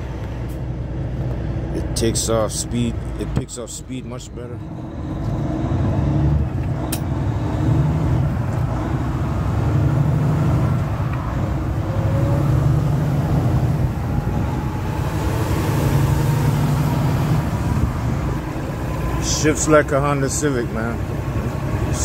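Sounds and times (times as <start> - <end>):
truck diesel engine drone: 0.0 - 22.0.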